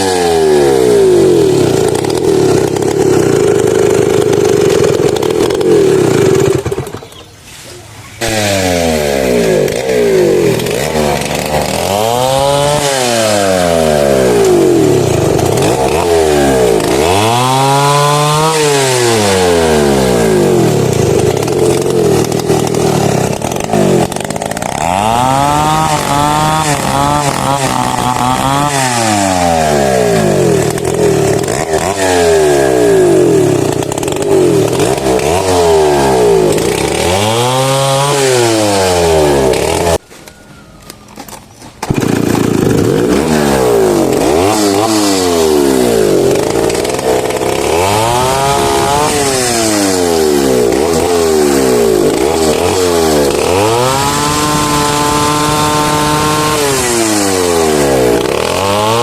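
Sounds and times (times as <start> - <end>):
chainsaw cutting wood: 0.0 - 7.3, 8.2 - 40.0, 41.2 - 59.0.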